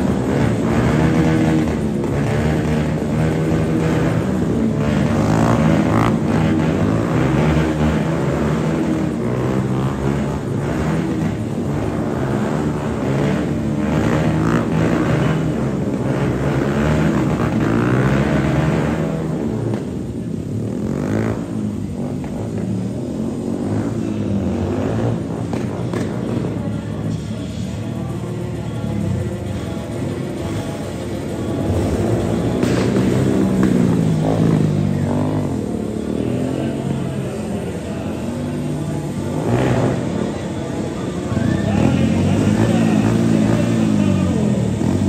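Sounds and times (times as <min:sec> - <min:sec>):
motorcycle engines droning: 0:00.0 - 0:45.0.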